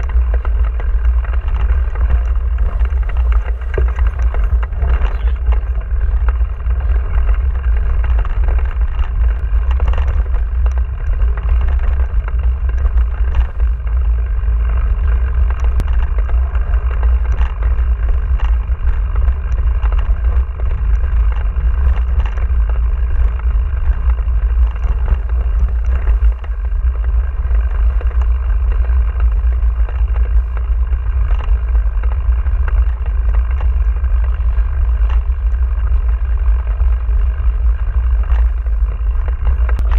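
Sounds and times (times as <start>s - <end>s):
bike clicks and rattles: 0.0s - 39.9s
bike tyre noise: 0.0s - 39.9s
wind rumble on camera: 0.0s - 39.9s.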